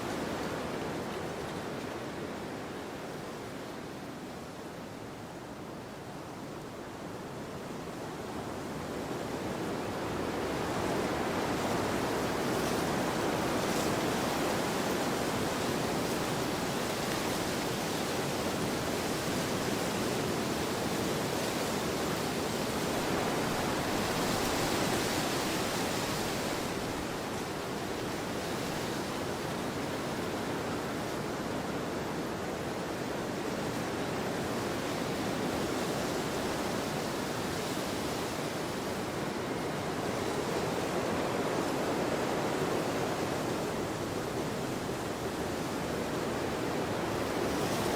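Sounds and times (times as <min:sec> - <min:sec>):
wind blowing across a field: 0:00.0 - 0:47.9.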